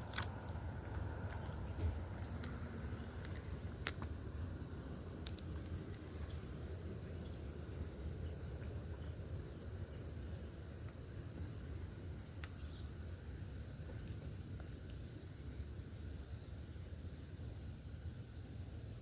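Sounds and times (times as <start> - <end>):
insects chirping in high trills: 0.0 - 19.0
low outdoor background rumble: 0.0 - 19.0.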